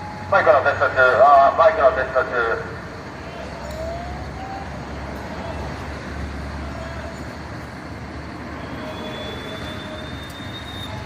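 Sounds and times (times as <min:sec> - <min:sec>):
vehicle and street noise: 0:00.0 - 0:11.0.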